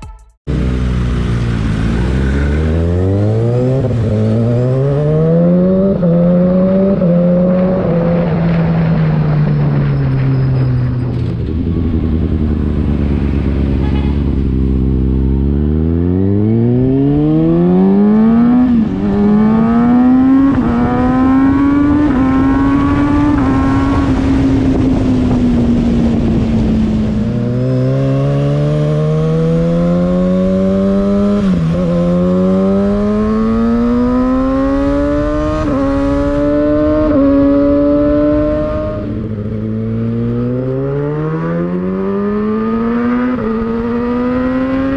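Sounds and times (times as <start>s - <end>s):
motorcycle engine revving through gears: 0.5s - 44.9s.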